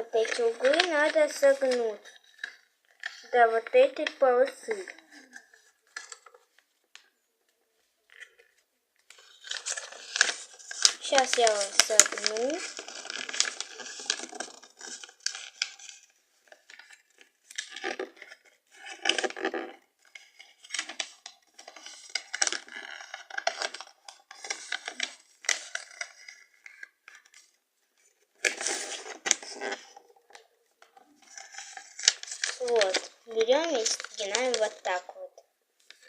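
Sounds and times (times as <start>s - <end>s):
paper being folded: 0.0s - 6.7s, 8.1s - 36.0s.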